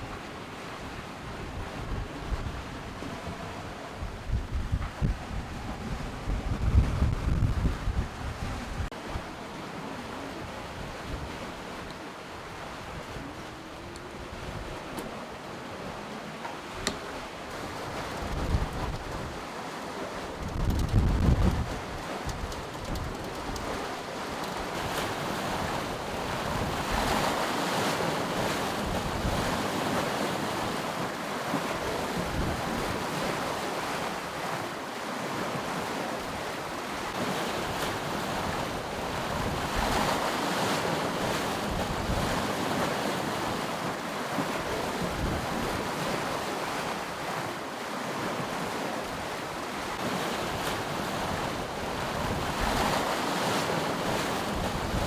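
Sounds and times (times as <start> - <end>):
wind buffeting microphone: 0.0 - 9.3, 16.7 - 34.7, 35.3 - 47.5, 48.3 - 55.0
sea splashing along hulls: 0.0 - 55.0.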